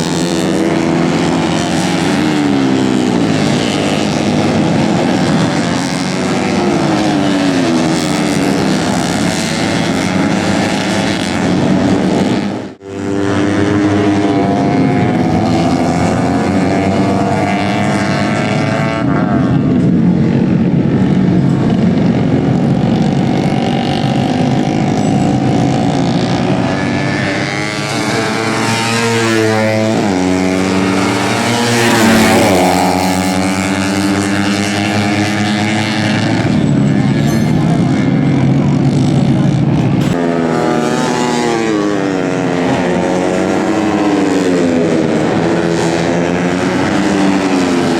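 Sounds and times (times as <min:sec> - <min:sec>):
motorcycle engines revving: 0:00.0 - 0:47.9.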